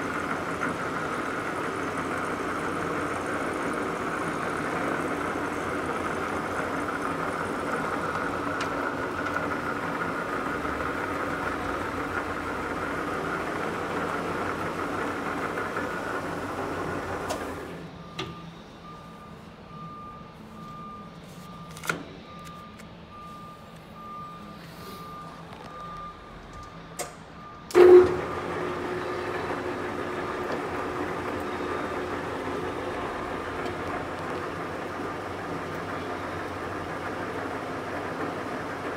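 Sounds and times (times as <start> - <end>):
machinery whining and humming: 0.0 - 38.9.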